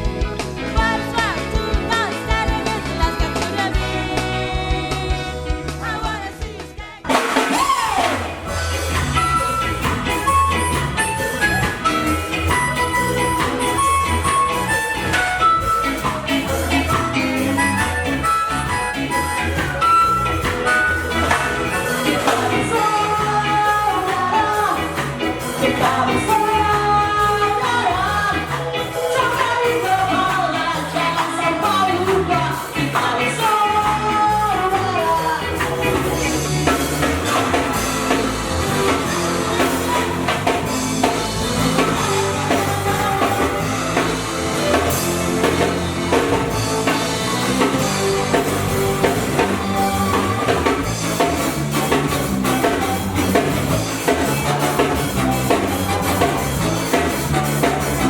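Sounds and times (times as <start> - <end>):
drums and cymbals: 0.0 - 58.0
ska band playing: 0.0 - 58.0
person singing: 0.6 - 58.0.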